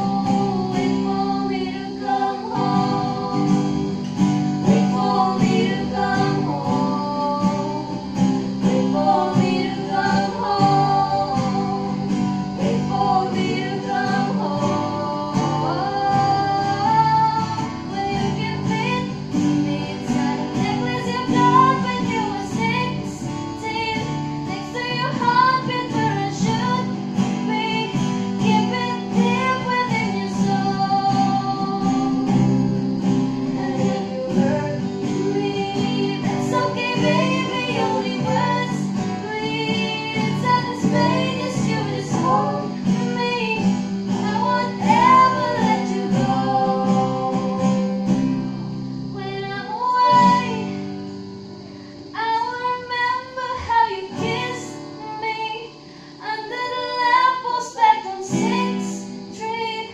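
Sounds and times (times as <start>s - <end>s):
woman singing: 0.0s - 51.4s, 52.0s - 59.9s
acoustic guitars: 0.0s - 59.9s.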